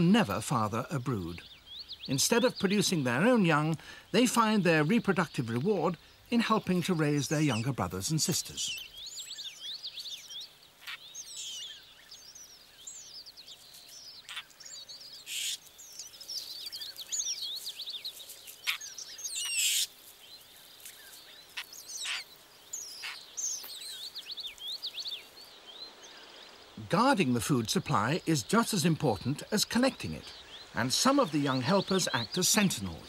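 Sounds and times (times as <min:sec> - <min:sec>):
nestlings chirping: 0:00.0 - 0:33.0.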